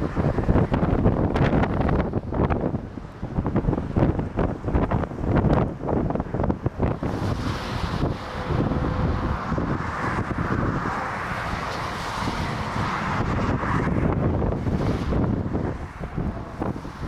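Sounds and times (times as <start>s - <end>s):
gusty wind on microphone: 0.0s - 17.0s
jet airliner rushing noise: 0.0s - 17.0s.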